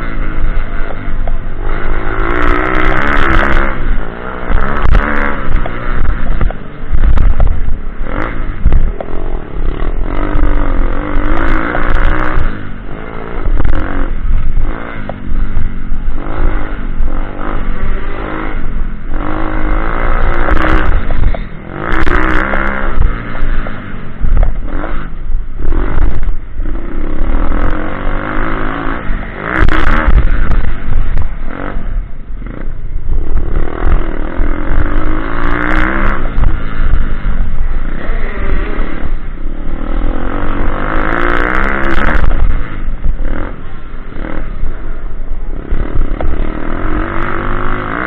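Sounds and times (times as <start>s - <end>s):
small motorcycle engine revving: 0.0s - 48.0s.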